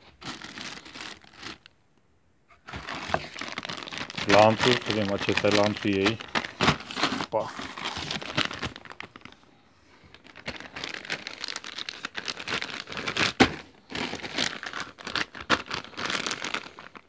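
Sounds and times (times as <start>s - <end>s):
plastic bag crinkling: 0.0s - 1.7s, 2.5s - 17.0s.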